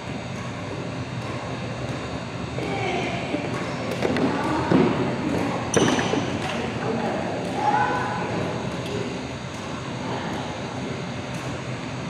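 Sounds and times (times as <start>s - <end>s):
fans humming: 0.0s - 12.0s.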